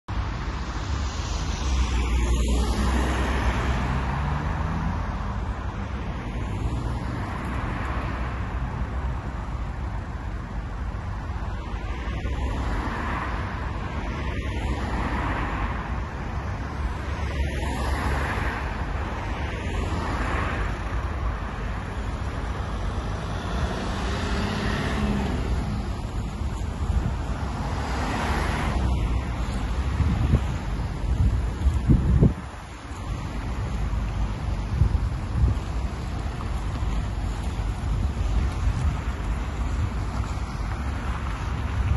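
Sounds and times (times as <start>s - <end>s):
cars and vans driving past: 0.1s - 41.9s.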